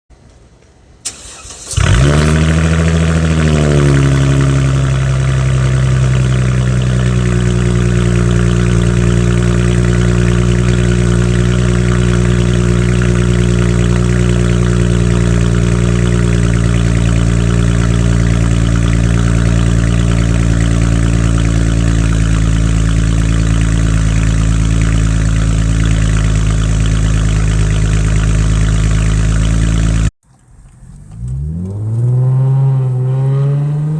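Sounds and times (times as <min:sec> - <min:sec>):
car engine starting and idling: 0:01.0 - 0:33.9.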